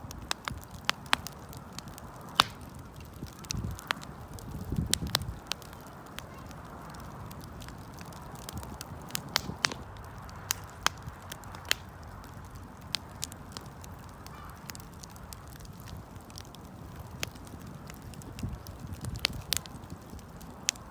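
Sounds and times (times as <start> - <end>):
burning wood crackling and popping: 0.0 - 20.9
low rush of flame: 0.0 - 20.9.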